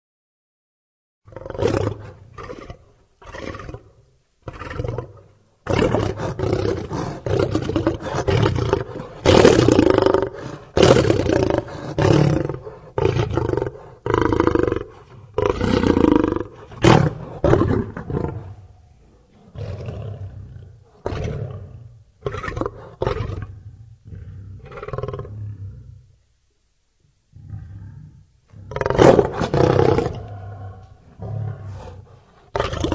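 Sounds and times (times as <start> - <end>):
lion roaring: 1.3 - 26.1, 27.3 - 32.9.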